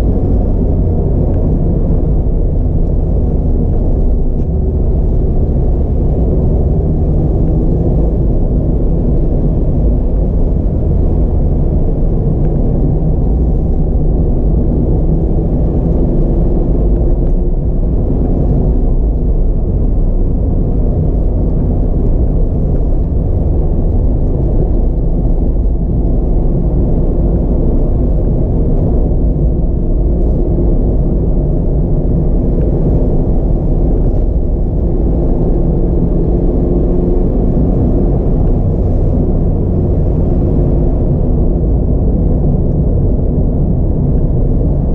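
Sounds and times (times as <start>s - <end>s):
car engine hum: 0.0s - 44.9s
road and tyre rumble: 0.0s - 44.9s.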